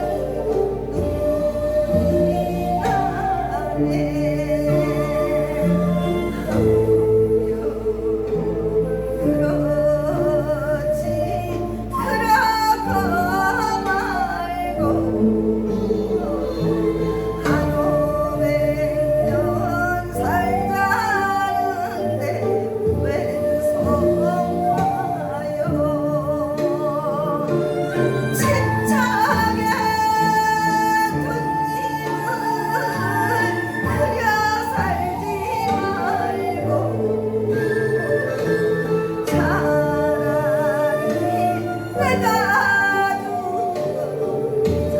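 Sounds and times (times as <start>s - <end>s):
instrumental accompaniment: 0.0s - 44.9s
woman singing folk song: 0.0s - 44.9s.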